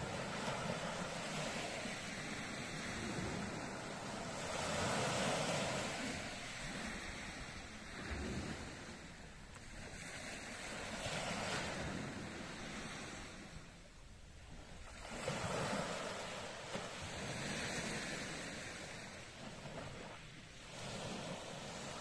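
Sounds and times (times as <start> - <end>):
waves washing onto shore: 0.0 - 22.0.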